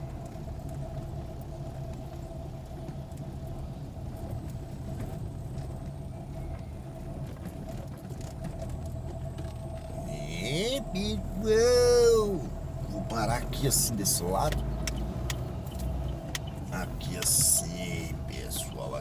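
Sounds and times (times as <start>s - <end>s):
car engine: 0.0s - 19.0s
road rumble: 0.0s - 19.0s.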